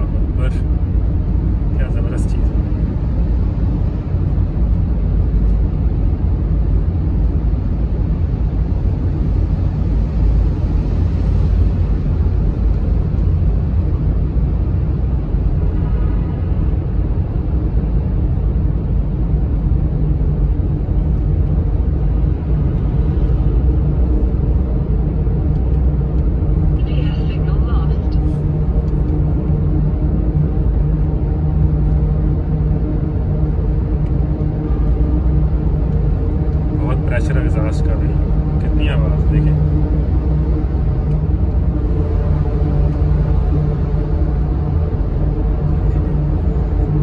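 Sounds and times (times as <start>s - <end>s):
road and engine rumble in car: 0.0s - 47.0s.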